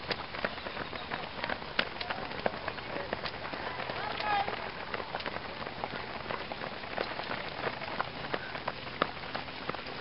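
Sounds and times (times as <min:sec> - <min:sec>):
rain pattering: 0:00.0 - 0:10.0.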